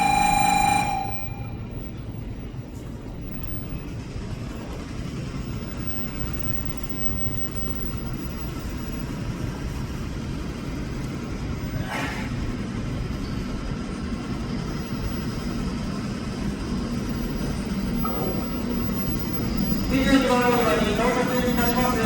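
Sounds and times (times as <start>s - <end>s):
train low rumble: 0.0s - 22.0s.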